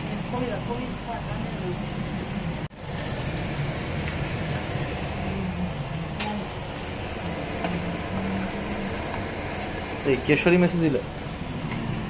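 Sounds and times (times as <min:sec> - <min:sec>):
fan-like machine whooshing: 0:00.0 - 0:12.0.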